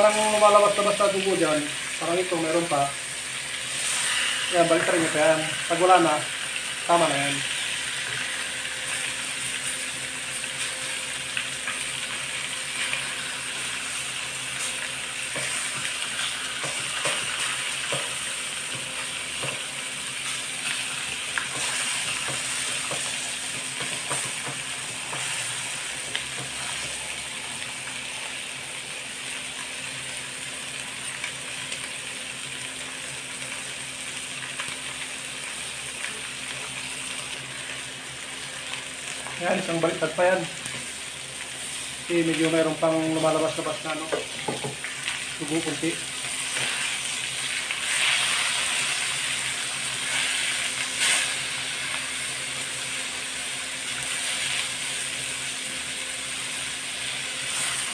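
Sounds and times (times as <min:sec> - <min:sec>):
liver sizzling in a wok: 0:00.0 - 0:57.9.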